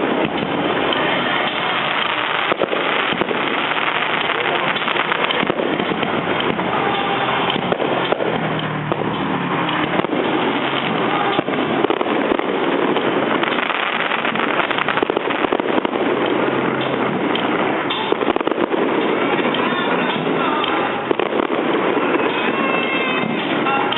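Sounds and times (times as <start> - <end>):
fireworks bangs and crackles: 0.0 - 23.9.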